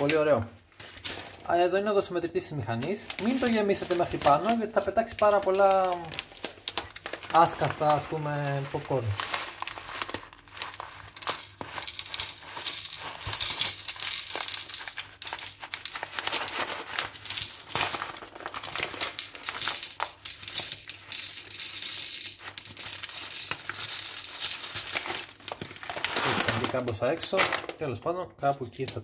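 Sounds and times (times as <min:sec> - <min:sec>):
plastic bag crinkling: 0:02.7 - 0:27.9
popcorn kernels rattling into glass bowl: 0:02.9 - 0:27.7.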